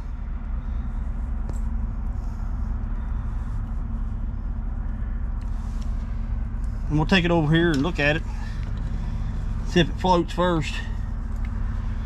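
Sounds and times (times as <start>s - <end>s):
low rumble with hum: 0.0s - 12.0s.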